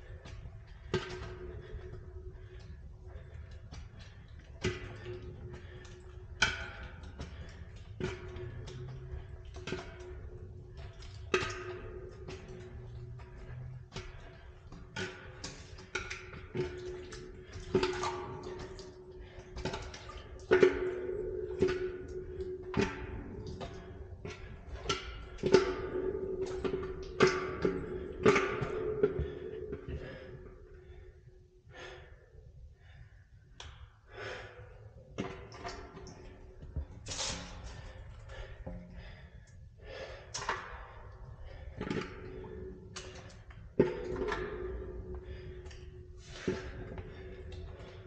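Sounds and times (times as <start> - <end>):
knocks echoing in concrete pipe: 0.0 - 48.0.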